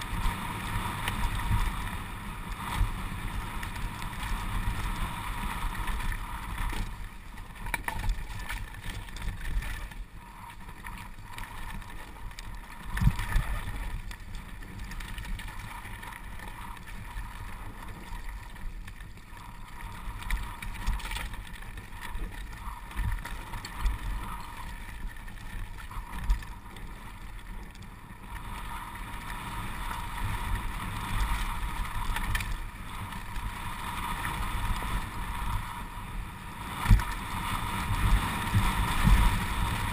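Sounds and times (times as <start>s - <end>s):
bike rattling over rough ground: 0.0s - 39.9s
wind rush on microphone: 0.0s - 39.9s.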